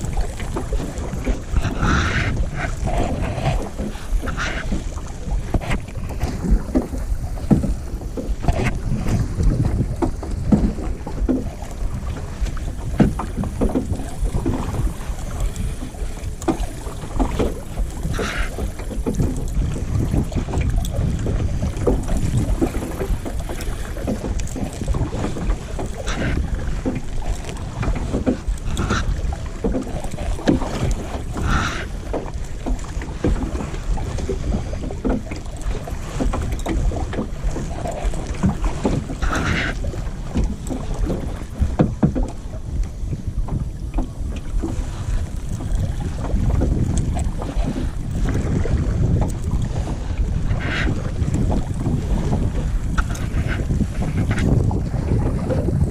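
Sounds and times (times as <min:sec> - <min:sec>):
paddle splashing in water: 0:00.0 - 0:55.9
wind on microphone: 0:00.0 - 0:55.9.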